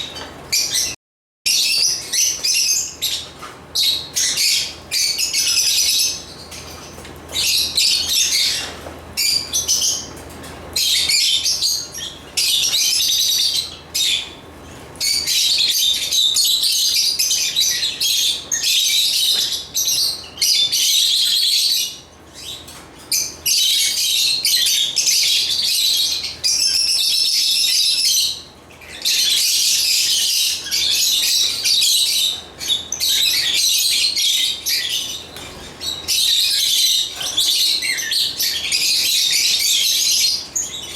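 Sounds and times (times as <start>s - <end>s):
lovebirds chirping: 0.0s - 10.2s, 15.0s - 40.9s.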